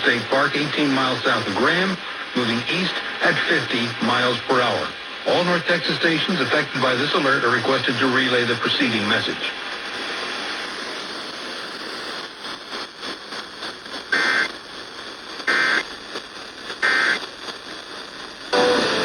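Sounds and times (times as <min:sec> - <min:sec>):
radio hiss and crackle: 0:00.0 - 0:19.0.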